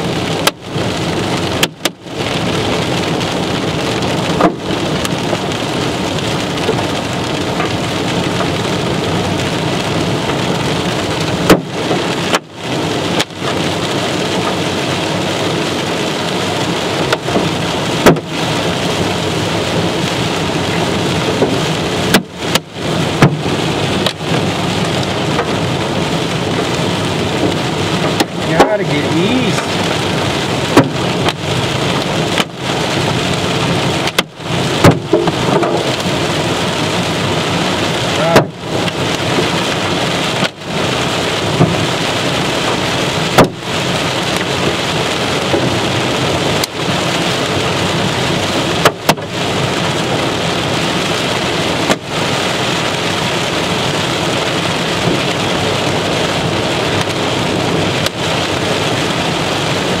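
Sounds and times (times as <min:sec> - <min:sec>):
hail pounding on vehicle roof: 0:00.0 - 1:00.0.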